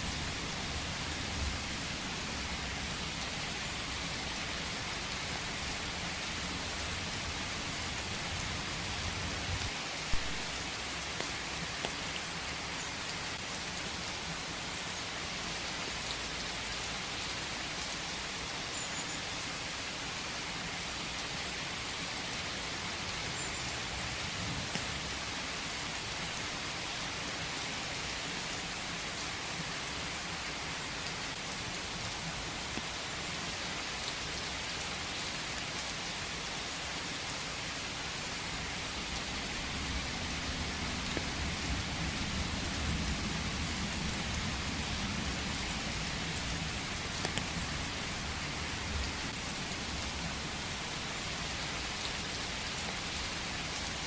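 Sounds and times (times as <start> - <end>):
steady rain in forest: 0.0 - 54.0.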